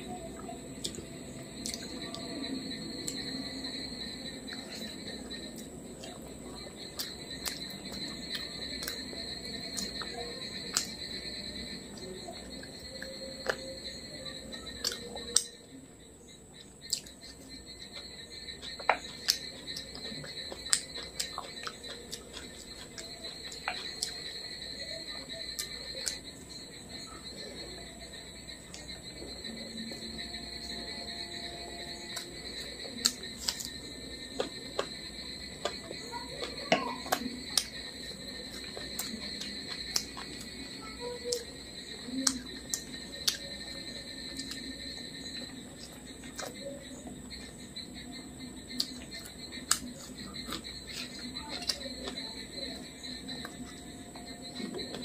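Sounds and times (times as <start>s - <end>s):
steady high-pitched whine: 0.0s - 55.0s
mouth clicks and smacks eating: 0.3s - 14.0s, 14.7s - 15.6s, 16.6s - 26.7s, 31.8s - 47.6s, 48.7s - 55.0s.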